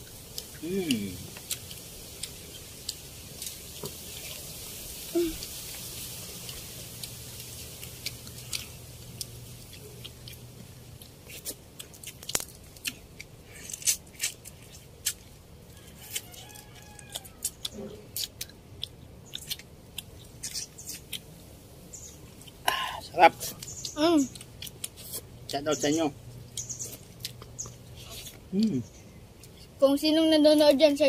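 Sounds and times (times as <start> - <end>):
chewing and crunching: 0.0 - 29.8.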